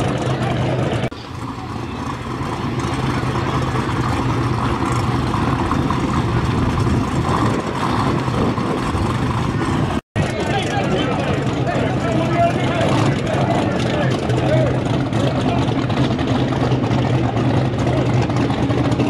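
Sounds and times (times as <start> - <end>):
drag car engine running: 0.0 - 19.0.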